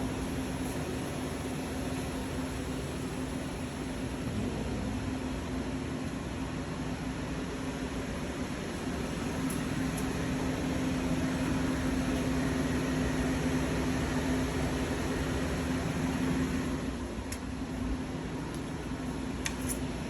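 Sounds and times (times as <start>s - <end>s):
machining center humming: 0.0s - 5.5s, 8.2s - 19.4s.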